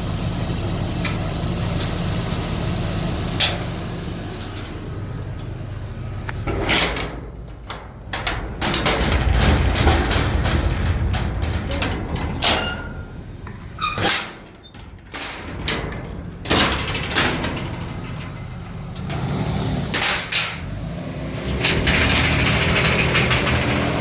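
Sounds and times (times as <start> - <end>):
motor rumbling: 0.0 - 24.0.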